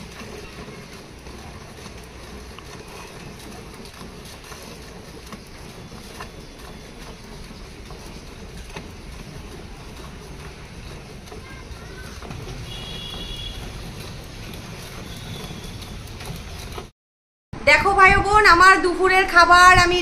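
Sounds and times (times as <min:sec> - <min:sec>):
milk squirting from cow teats: 0:00.0 - 0:16.8.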